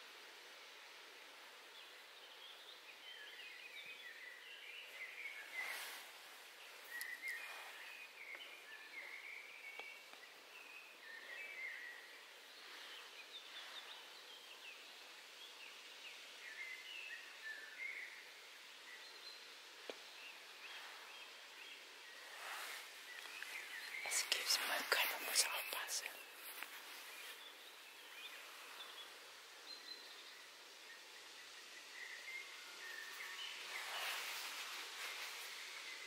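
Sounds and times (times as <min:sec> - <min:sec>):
outdoor hiss: 0:00.0 - 0:36.0
songbirds twittering: 0:00.0 - 0:36.0.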